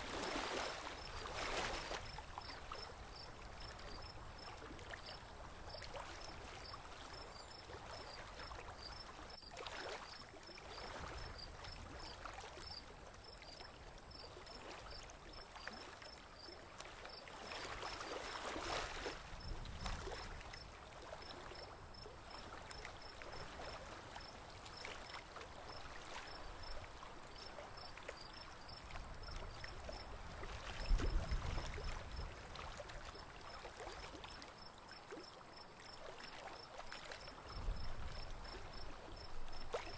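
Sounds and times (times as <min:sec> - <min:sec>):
water splashing along boat hull: 0:00.0 - 0:39.9.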